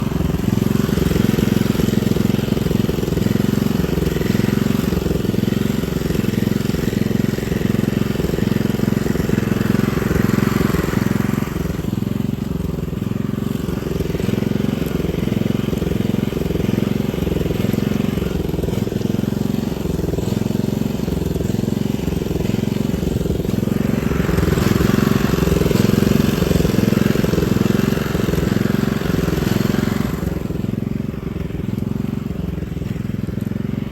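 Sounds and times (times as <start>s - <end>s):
small engine pulsing under load: 0.0s - 33.9s.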